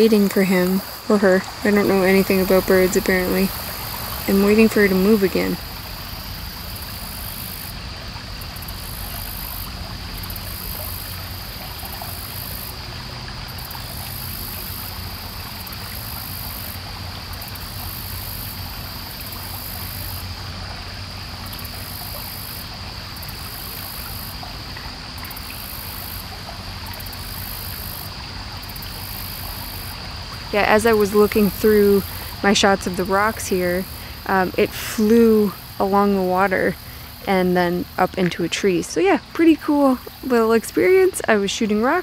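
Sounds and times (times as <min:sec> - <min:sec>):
insects trilling: 0:00.0 - 0:42.0
pulsing high insect layer: 0:00.0 - 0:42.0
small river rushing: 0:00.0 - 0:42.0.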